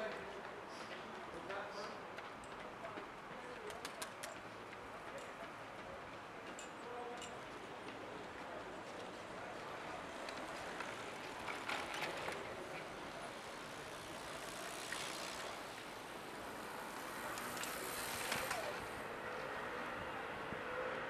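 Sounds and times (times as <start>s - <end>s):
road traffic hum: 0.0s - 21.0s
vehicles passing: 0.0s - 21.0s.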